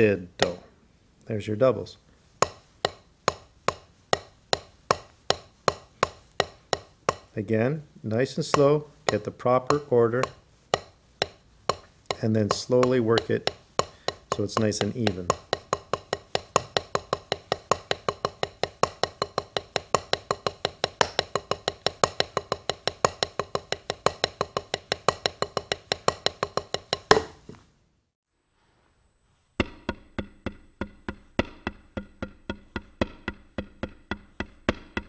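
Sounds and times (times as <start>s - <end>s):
drumsticks on a practice pad: 0.0s - 0.8s, 2.2s - 27.7s, 29.6s - 35.0s.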